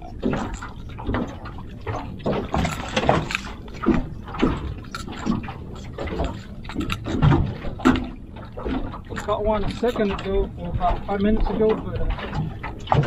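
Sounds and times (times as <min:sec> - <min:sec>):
waves slapping boat hull: 0:00.0 - 0:13.0.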